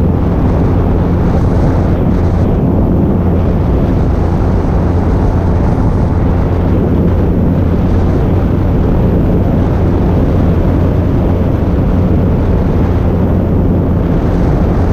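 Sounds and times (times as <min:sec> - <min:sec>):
small plane engine and propeller: 0:00.0 - 0:14.9
wind rush on microphone: 0:00.0 - 0:14.9.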